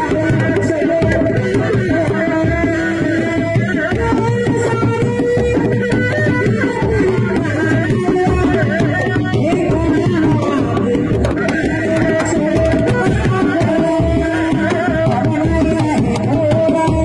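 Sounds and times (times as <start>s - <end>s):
drums beaten in interlocking rhythm: 0.0s - 17.0s.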